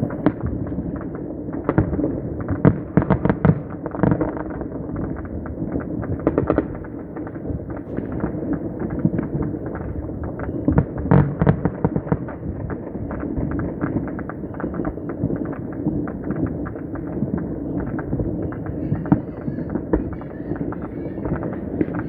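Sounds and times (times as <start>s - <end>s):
firecrackers crackling: 0.0s - 22.0s
loud firework bangs: 0.0s - 22.0s.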